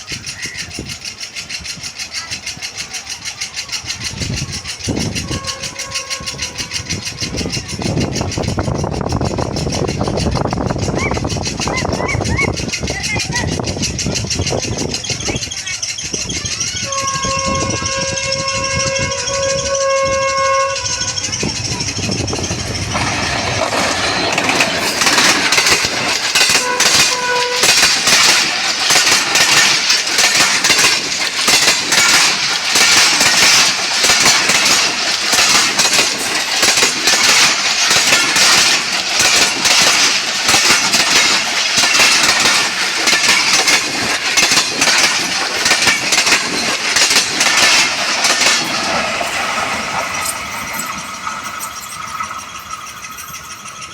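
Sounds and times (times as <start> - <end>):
clatter over rail joints: 0.0 - 53.9
train wheels rushing on rail: 0.0 - 53.9.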